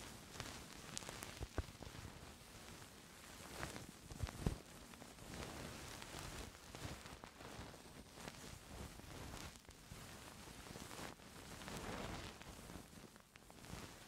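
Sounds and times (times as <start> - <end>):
fingers rubbing a microphone: 0.4 - 13.0.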